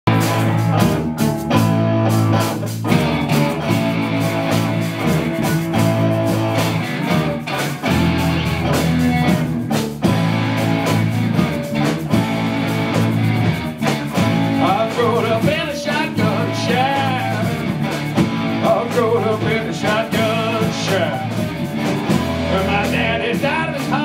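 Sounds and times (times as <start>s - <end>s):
drum kit beat: 0.0s - 24.0s
electric guitars: 0.0s - 24.0s.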